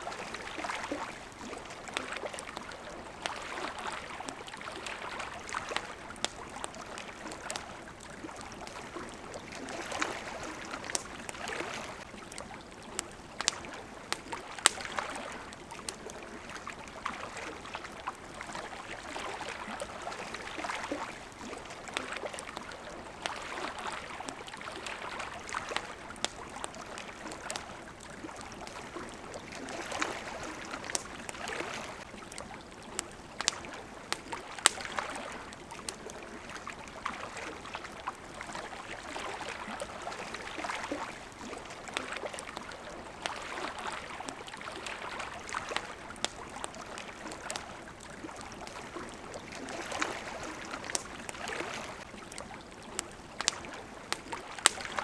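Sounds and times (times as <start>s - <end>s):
campfire crackling and popping: 0.0s - 55.0s
water lapping: 0.0s - 55.0s.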